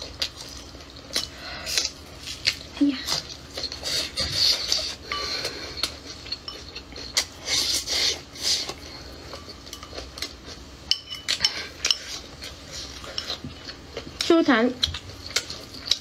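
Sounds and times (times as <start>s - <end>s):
chewing and mouth noises: 0.0s - 16.0s.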